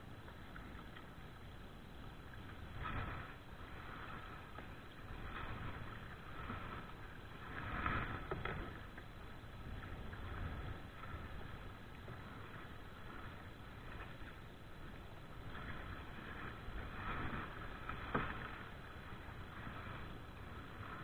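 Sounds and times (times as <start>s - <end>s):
water splashing around boat: 0.0s - 21.0s
wind rumble on microphone: 0.0s - 21.0s.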